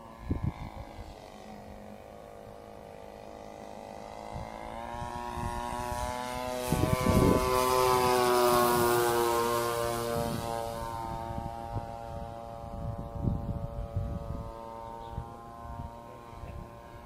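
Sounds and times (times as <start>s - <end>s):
model plane motor droning: 0.0s - 17.0s.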